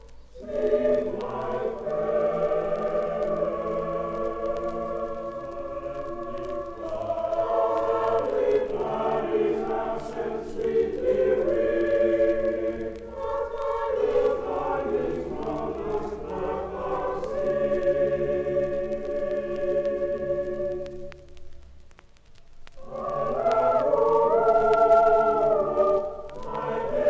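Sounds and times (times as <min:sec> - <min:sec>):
boys' choir singing a carol: 0:00.0 - 0:21.2, 0:22.8 - 0:27.0.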